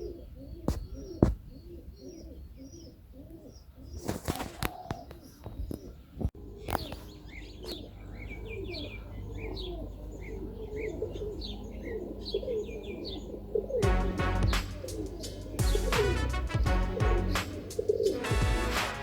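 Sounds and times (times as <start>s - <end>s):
pigeons cooing: 0.0s - 16.1s, 17.0s - 18.7s.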